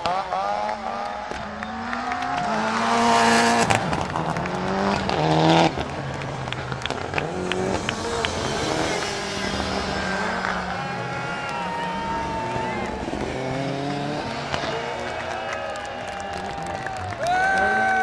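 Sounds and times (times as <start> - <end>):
rally car engines revving: 0.0 - 18.0.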